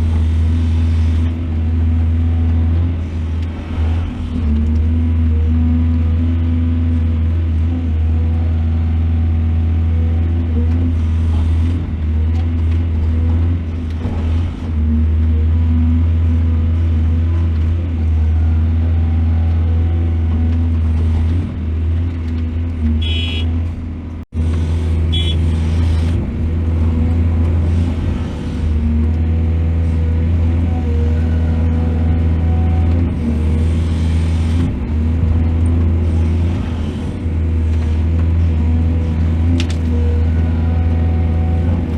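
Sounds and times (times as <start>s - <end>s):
excavator diesel engine droning: 0.0s - 41.9s.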